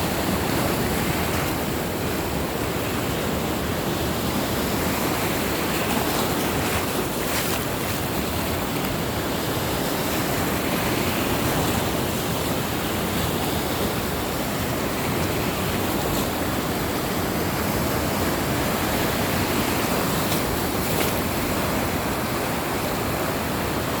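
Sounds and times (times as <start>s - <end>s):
waves washing onto shore: 0.0s - 24.0s.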